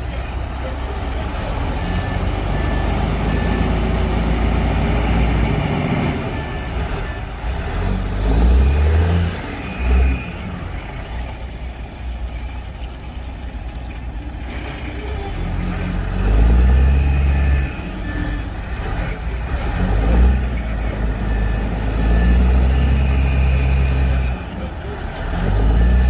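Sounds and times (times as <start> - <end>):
heavy diesel machinery working: 0.0 - 26.0
reversing beeps: 1.6 - 11.2, 14.6 - 26.0.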